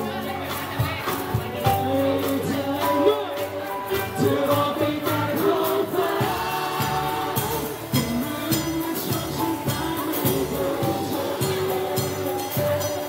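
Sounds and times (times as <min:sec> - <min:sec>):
acoustic guitar: 0:00.0 - 0:13.0
crowd singing along: 0:00.0 - 0:13.0
men singing together: 0:00.0 - 0:13.0.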